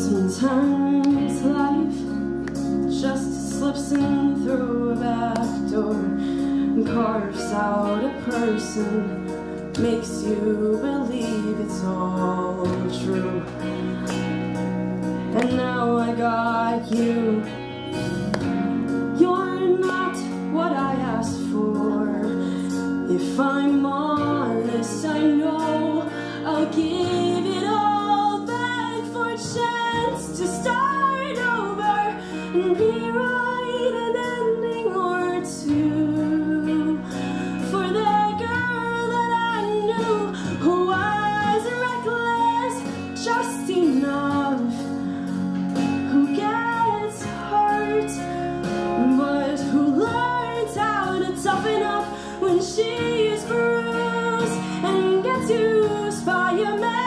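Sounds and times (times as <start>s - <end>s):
girl singing into a microphone: 0.0s - 14.0s, 15.2s - 17.9s, 19.1s - 45.0s, 45.8s - 57.0s
instrumental accompaniment: 0.0s - 57.0s.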